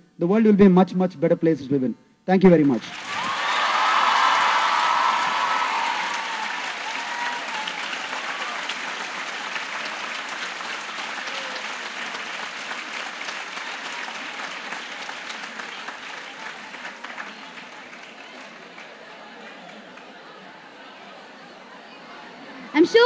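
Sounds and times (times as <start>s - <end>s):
audience applauding: 2.6s - 21.2s.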